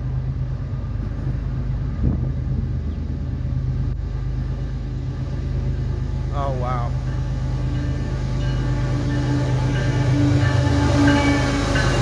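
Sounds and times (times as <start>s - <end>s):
train locomotive rumbling: 0.0s - 12.0s.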